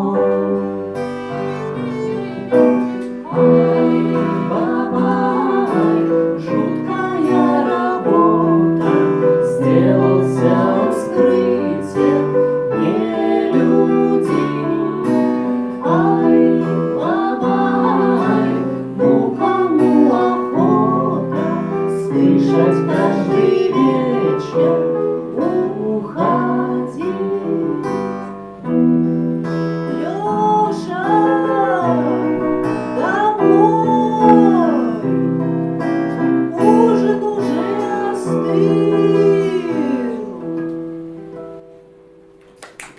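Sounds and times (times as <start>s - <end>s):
person singing: 0.0s - 28.4s, 29.8s - 35.4s, 36.4s - 41.0s
acoustic guitar chords: 0.0s - 42.9s.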